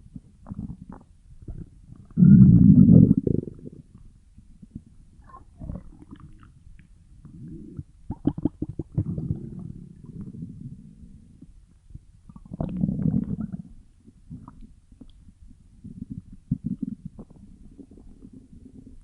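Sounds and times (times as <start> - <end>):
stomach growling and gurgling: 0.0 - 19.0.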